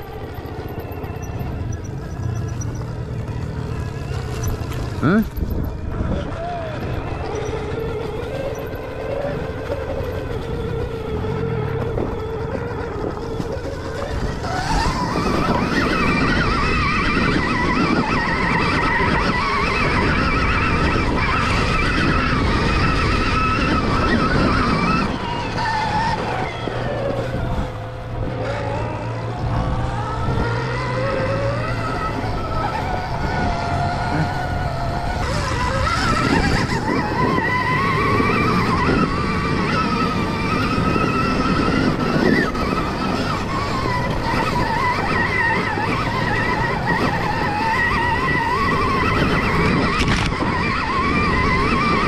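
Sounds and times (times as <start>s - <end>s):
electric motorbike motor whining: 0.0s - 52.0s
steady rushing noise: 0.0s - 52.0s.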